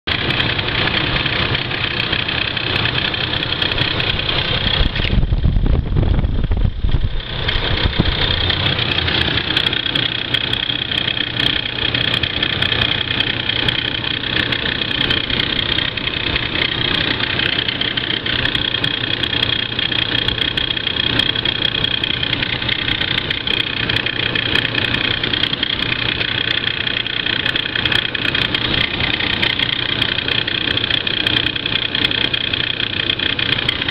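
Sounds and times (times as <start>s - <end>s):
car engine idling: 0.0s - 33.9s
deep rumble: 2.9s - 30.9s.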